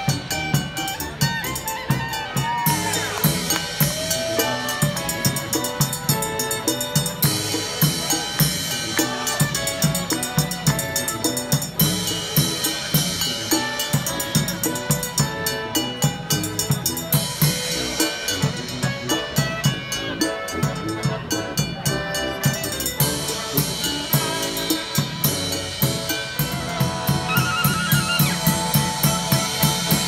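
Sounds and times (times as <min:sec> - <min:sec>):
clarinet: 0:00.0 - 0:30.0
small drums and bass drum: 0:00.0 - 0:30.0
tuba: 0:00.0 - 0:30.0.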